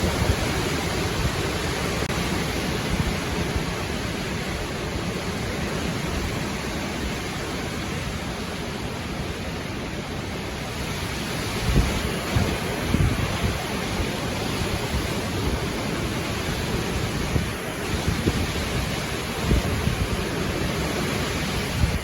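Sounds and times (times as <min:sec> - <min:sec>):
strong wind roaring: 0:00.0 - 0:22.0
wind gusts thumping microphone: 0:00.0 - 0:22.0.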